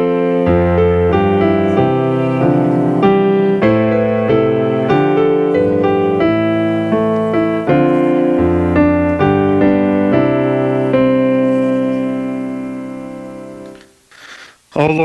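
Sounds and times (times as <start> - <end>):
piano playing slow chords: 0.0 - 13.9.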